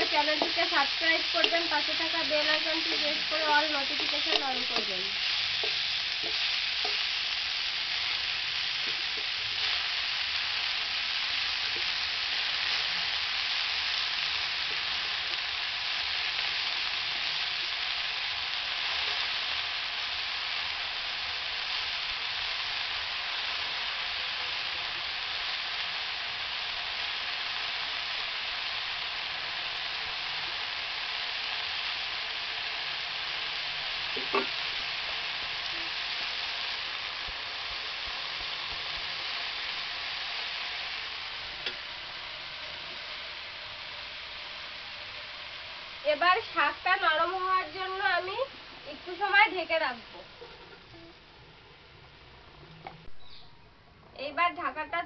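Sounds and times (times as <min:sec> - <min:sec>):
vegetables sizzling in hot oil: 0:00.0 - 0:53.5, 0:54.2 - 0:55.0.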